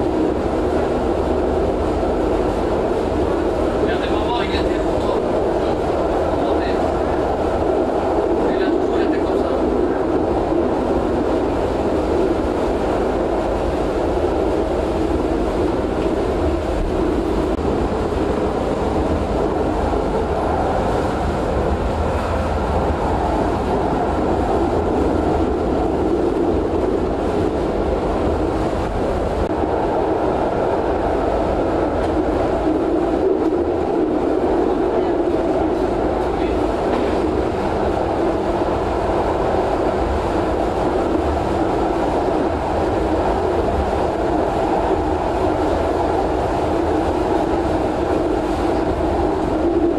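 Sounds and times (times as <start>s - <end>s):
tram wheels rumbling on rail: 0.0s - 49.9s.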